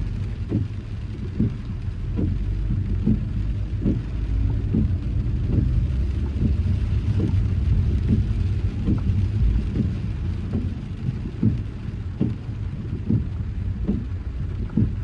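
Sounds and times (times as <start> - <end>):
rain hissing: 0.0 - 15.0
road and engine rumble: 0.0 - 15.0
soft rhythmic thumps: 0.0 - 15.0.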